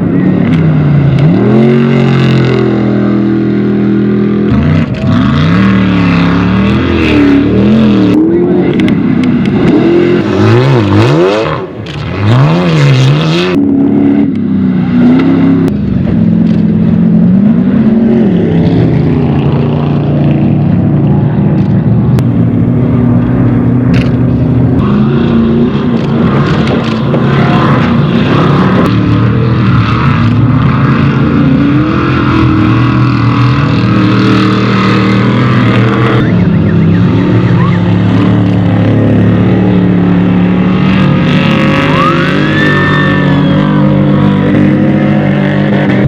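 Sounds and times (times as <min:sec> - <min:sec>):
race engines revving hard: 0:00.0 - 0:46.0.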